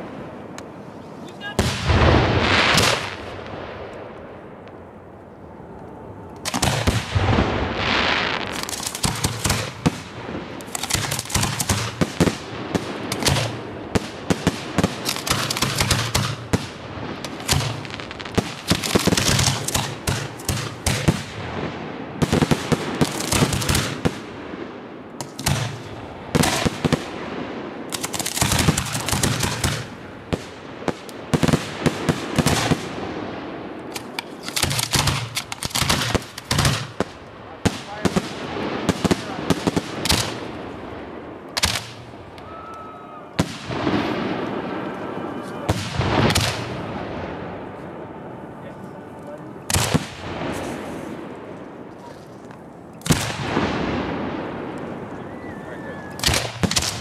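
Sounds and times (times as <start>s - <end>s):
fireworks bangs and cracks: 0.0s - 4.8s, 6.4s - 42.6s, 43.3s - 48.4s, 49.6s - 55.5s, 56.1s - 57.0s.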